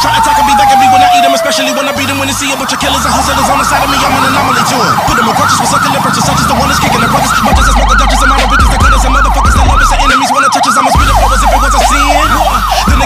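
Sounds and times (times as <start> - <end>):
police sirens yelping: 0.0 - 13.0.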